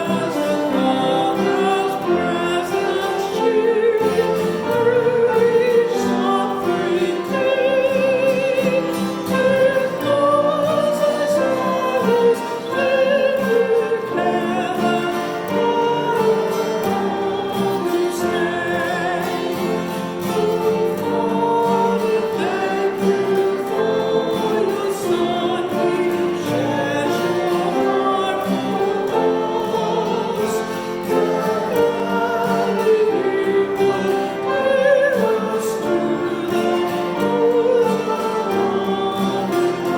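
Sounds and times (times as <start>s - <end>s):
choir singing with vibrato: 0.0s - 39.9s
instrumental accompaniment: 0.0s - 39.9s.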